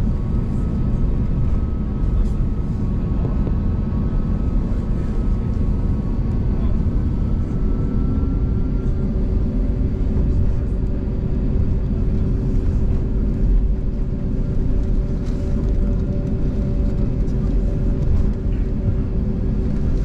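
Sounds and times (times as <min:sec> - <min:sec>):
jet engine cabin rumble: 0:00.0 - 0:20.0
steady low hum: 0:00.0 - 0:20.0.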